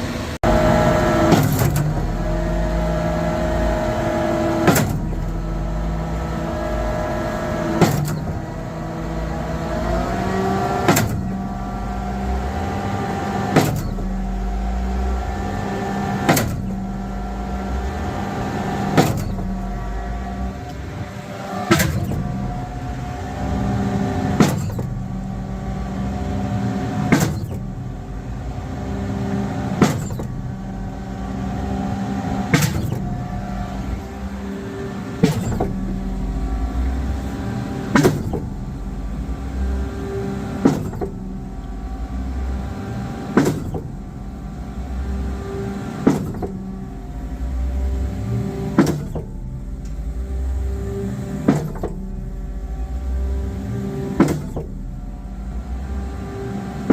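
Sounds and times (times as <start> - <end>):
pump clanking: 0.0 - 55.2
truck engine running: 0.0 - 56.9.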